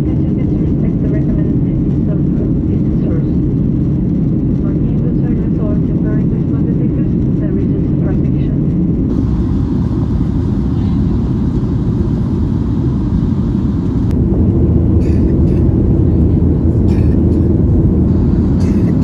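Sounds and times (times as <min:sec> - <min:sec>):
aircraft cabin roar: 0:00.0 - 0:19.0.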